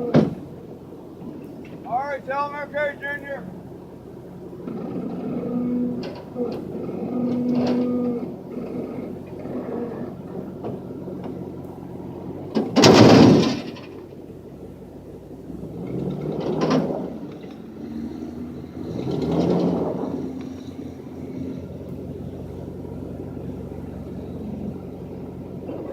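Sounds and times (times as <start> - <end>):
pickup engine revving: 0.0 - 25.9.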